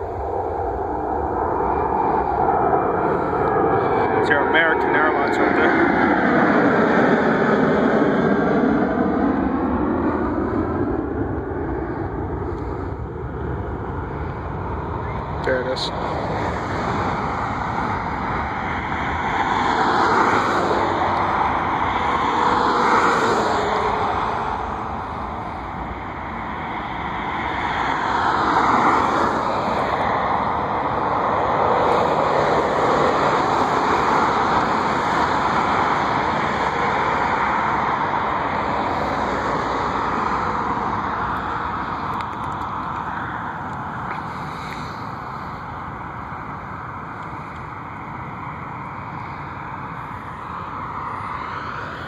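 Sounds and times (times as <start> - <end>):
passing vehicles rushing: 0.0 - 52.0.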